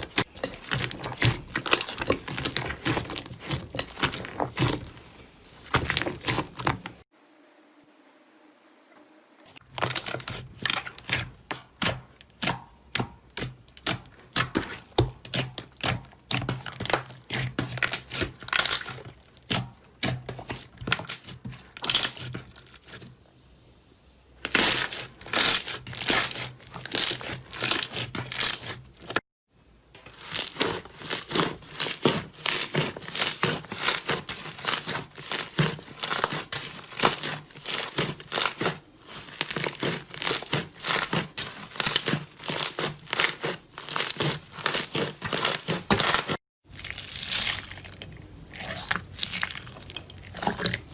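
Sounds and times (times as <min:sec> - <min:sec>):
slime crackling and popping: 0:00.0 - 0:04.9, 0:09.6 - 0:23.0, 0:24.4 - 0:28.8, 0:30.0 - 0:50.9.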